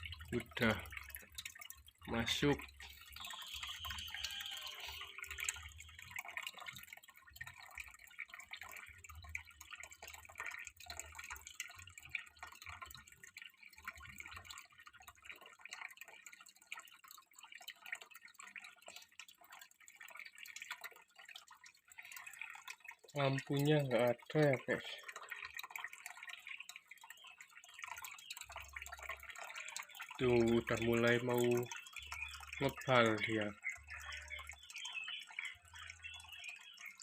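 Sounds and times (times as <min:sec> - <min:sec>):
water dripping into aquarium: 0:00.0 - 0:37.0.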